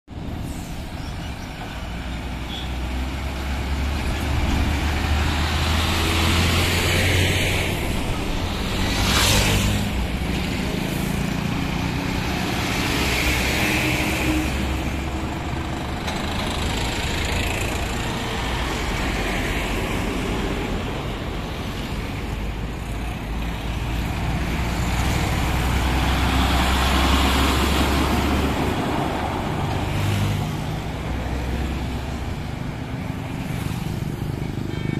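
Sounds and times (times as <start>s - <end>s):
diesel trucks passing: 0.1s - 34.9s.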